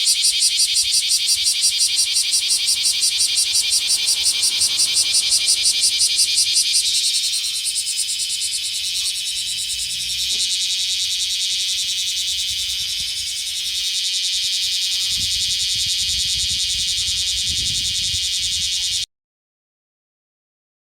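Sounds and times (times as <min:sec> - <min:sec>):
cicadas buzzing: 0:00.0 - 0:19.1.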